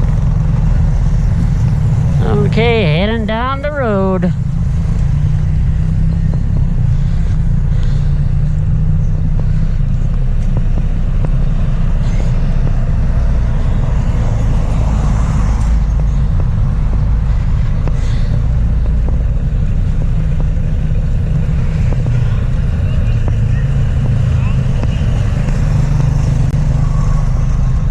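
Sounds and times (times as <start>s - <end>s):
road traffic rumble: 0.0s - 27.9s
vehicle passing: 0.0s - 27.9s.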